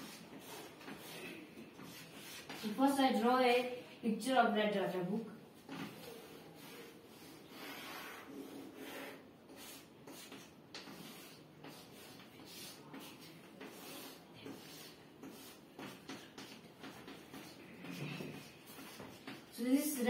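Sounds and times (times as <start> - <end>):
chalk scratching on blackboard: 0.0 - 3.0, 5.7 - 20.0.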